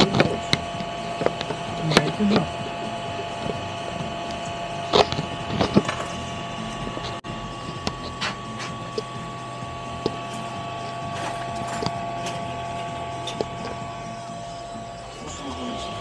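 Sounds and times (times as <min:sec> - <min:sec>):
printer fan and motors humming: 0:00.0 - 0:16.0.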